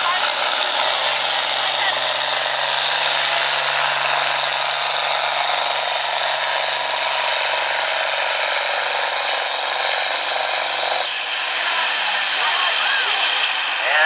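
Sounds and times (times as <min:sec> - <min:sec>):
tractor engine roaring: 0:00.0 - 0:14.0.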